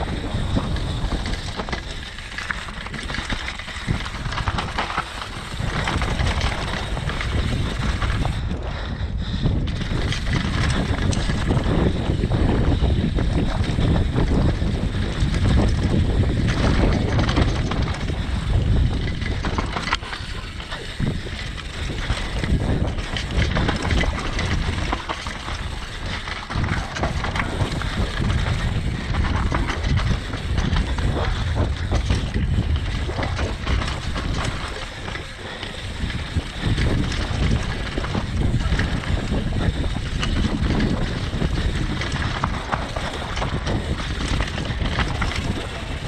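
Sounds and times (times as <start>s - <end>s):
bike chain and frame rattling: 0.0s - 46.0s
bike tyres on dirt and stones: 0.0s - 46.0s
wind buffeting microphone: 0.0s - 46.0s.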